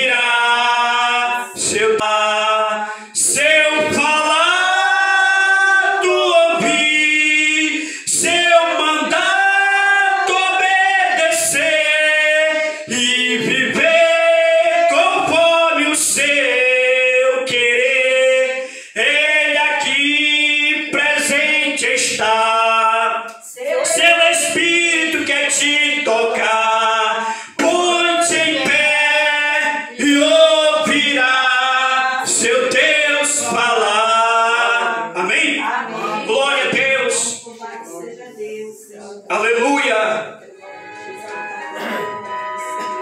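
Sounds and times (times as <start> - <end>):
man singing a hymn: 0.0 - 37.4.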